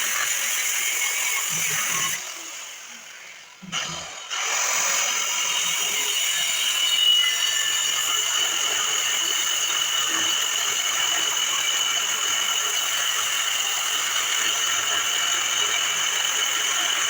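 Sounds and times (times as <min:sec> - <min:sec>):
power saw grinding through steel: 0:00.0 - 0:17.0.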